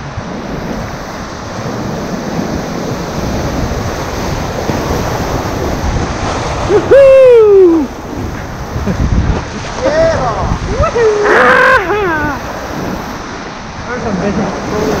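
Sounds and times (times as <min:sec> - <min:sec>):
river rapids rushing: 0:00.0 - 0:15.0
wind noise on microphone: 0:00.0 - 0:15.0.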